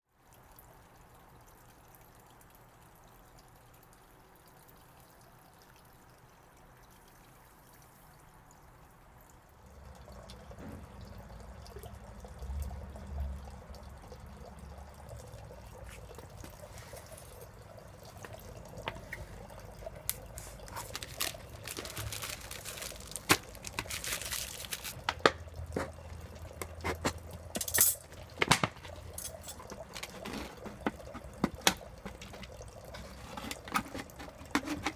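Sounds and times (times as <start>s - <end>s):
water trickling and dripping: 0.1s - 34.9s.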